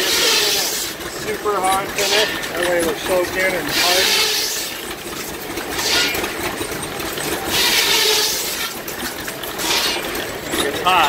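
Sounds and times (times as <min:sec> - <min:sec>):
lathe motor hum: 0:00.0 - 0:11.0.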